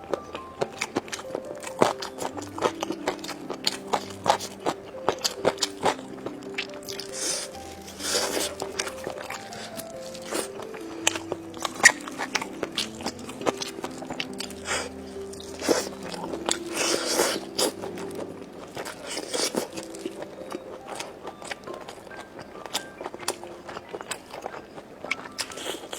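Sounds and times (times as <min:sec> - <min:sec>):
background music: 0:00.0 - 0:25.9
chewing crisp fried food: 0:00.0 - 0:25.9.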